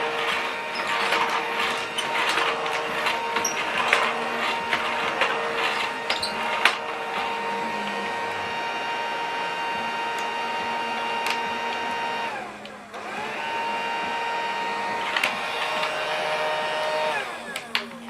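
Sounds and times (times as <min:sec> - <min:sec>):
toy vacuum cleaner motor whine: 0:00.0 - 0:18.0.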